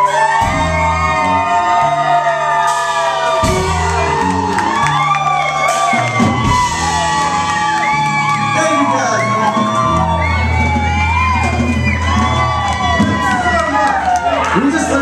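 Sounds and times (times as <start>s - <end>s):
bass guitar: 0.0s - 15.0s
crowd whooping and singing along: 0.0s - 15.0s
drums: 0.0s - 15.0s
live rock band playing: 0.0s - 15.0s.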